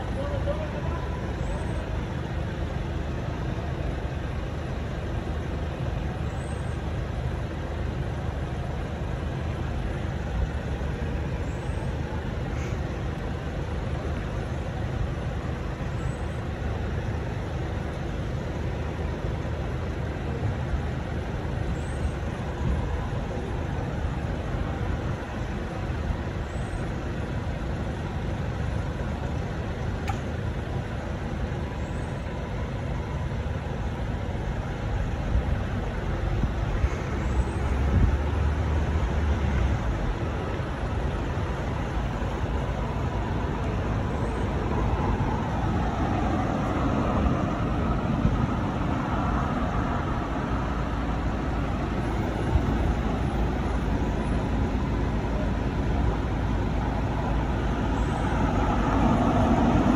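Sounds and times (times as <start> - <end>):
low rumble of road traffic: 0.0 - 59.9.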